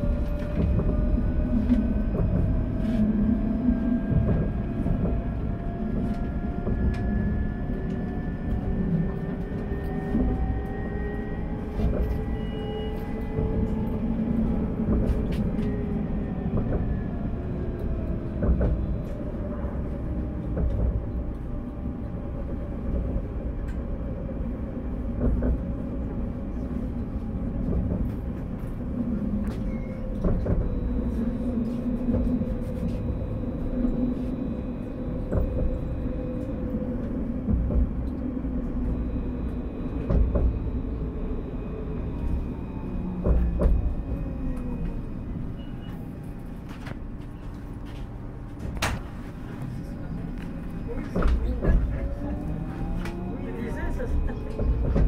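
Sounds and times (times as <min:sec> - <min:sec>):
tram wheels rumbling on rails: 0:00.0 - 0:55.0.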